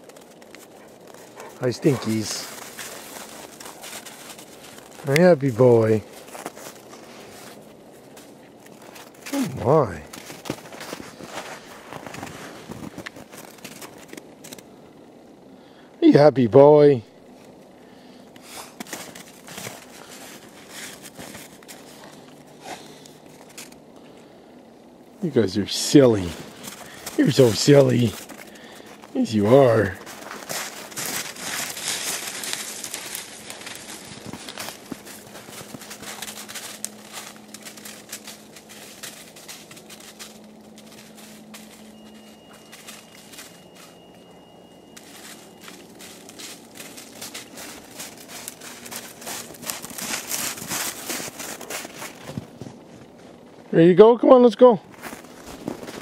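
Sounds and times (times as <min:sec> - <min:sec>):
footsteps crunching in snow: 0:00.0 - 0:14.7, 0:18.4 - 0:24.2, 0:25.3 - 0:53.6, 0:54.8 - 0:56.0.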